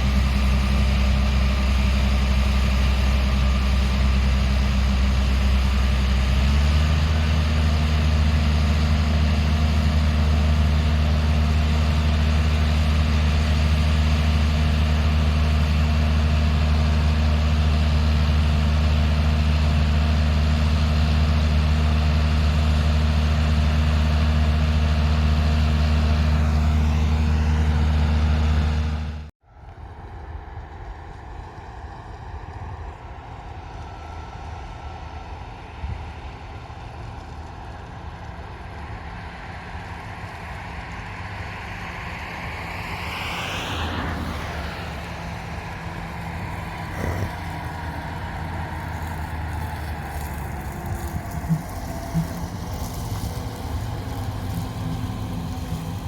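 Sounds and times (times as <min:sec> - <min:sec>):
farm machine diesel engine: 0:00.0 - 0:56.0
quieter engine running: 0:00.0 - 0:56.0.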